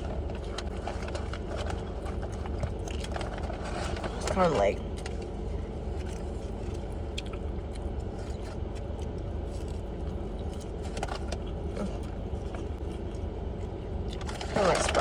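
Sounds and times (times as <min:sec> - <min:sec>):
chewing and food handling rustles: 0:00.0 - 0:15.0.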